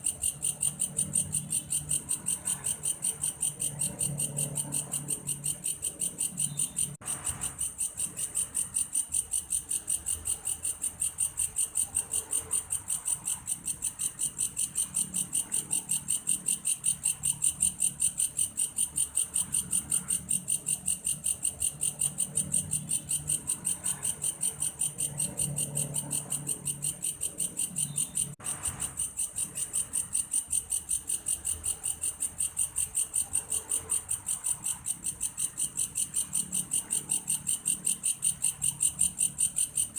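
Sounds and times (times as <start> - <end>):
insect trilling: 0.0 - 39.9.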